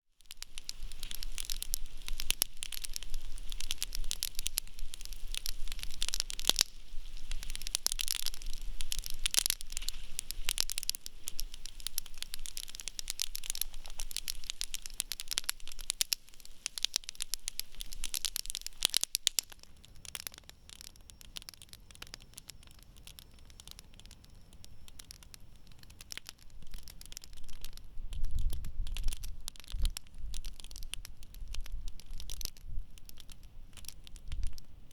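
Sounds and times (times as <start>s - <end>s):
campfire crackling and popping: 0.1s - 34.9s.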